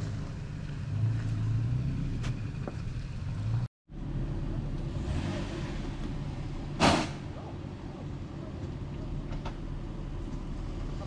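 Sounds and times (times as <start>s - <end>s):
engine rumbling at low speed: 0.0s - 11.0s.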